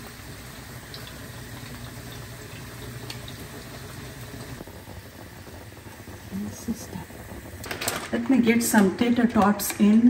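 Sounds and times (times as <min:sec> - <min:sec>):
hot oil sizzling: 0:00.0 - 0:09.8.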